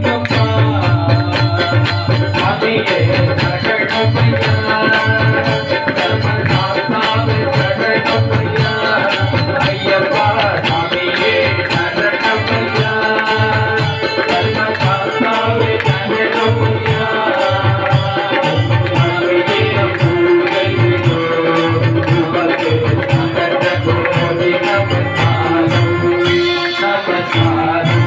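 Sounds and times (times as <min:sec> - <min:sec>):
devotional song melody: 0:00.0 - 0:28.0
steady drum beat: 0:00.0 - 0:28.0.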